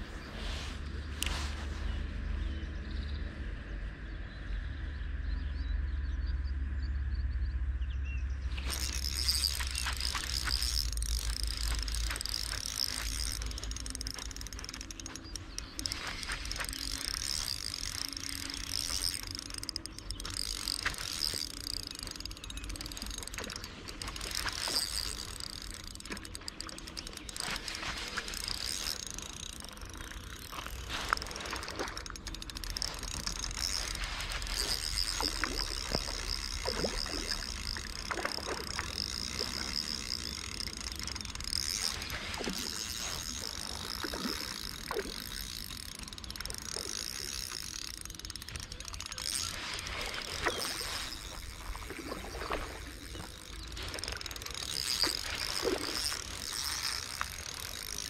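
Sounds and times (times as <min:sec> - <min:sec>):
fishing reel gears whirring: 0:00.0 - 0:02.8, 0:08.3 - 0:58.0
small clicks from reel handling: 0:00.2 - 0:02.0, 0:08.5 - 0:58.0.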